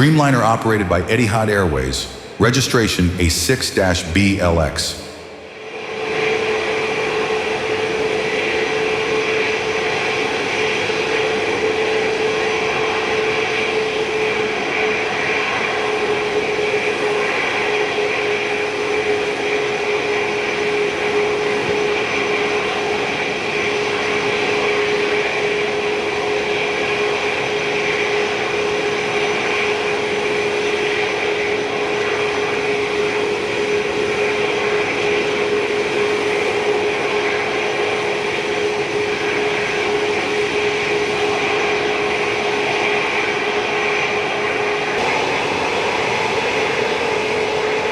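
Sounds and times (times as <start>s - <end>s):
jet engines roaring: 0.0s - 47.9s
steady jet engine whine: 0.0s - 47.9s.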